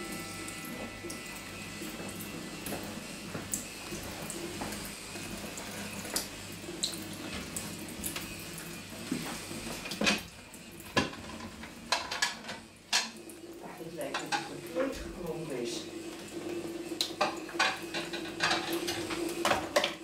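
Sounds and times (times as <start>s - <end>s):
tap water trickling into sink: 0.6s - 20.0s.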